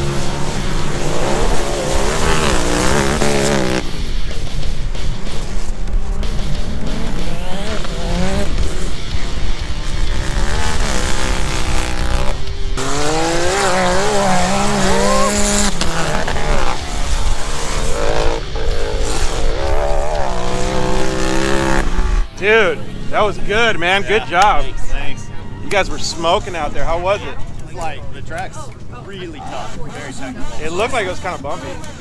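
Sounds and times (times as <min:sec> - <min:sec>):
race car engines revving: 0:00.0 - 0:32.0.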